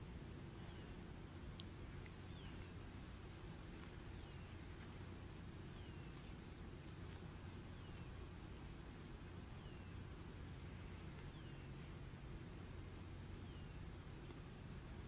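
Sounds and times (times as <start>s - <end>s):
faint low hum: 0.0s - 15.0s
small bird chirping: 0.0s - 15.0s.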